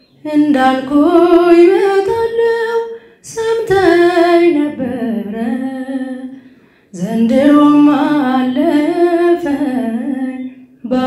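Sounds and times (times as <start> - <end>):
woman singing unaccompanied: 0.2 - 11.0.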